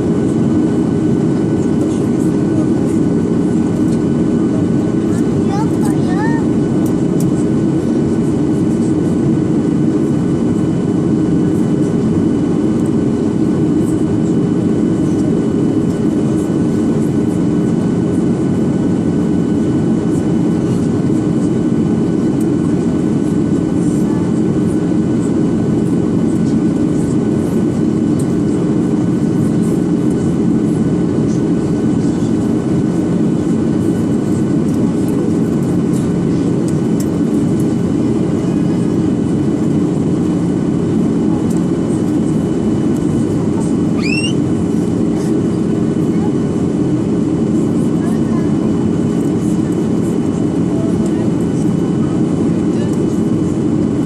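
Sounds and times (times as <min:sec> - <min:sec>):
high engine whine: 0:00.0 - 0:54.0
jet engines rumbling: 0:00.0 - 0:54.0.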